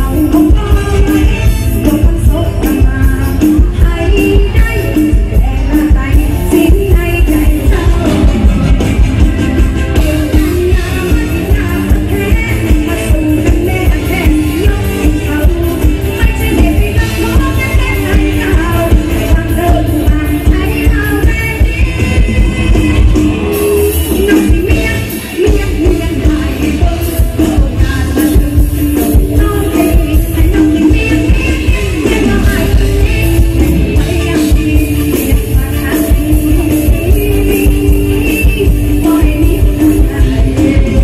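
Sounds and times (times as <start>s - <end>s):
live band playing dance music: 0.0s - 41.0s
person singing: 0.0s - 41.0s.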